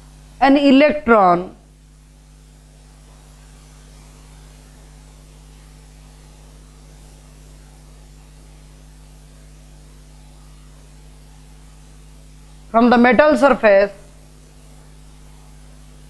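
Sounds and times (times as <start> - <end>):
background hiss: 0.0 - 16.0
low electrical hum: 0.0 - 16.0.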